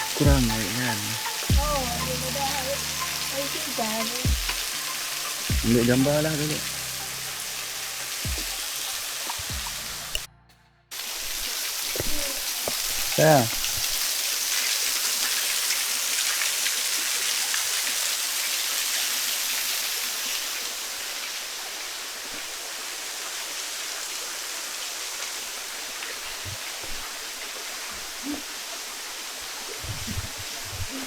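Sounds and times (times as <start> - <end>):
waterfall rushing: 0.0 - 10.3, 10.9 - 31.0.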